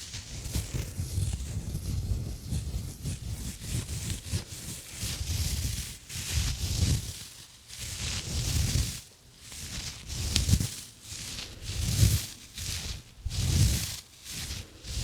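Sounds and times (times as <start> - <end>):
gloves rubbing on microphone: 0.0 - 15.0.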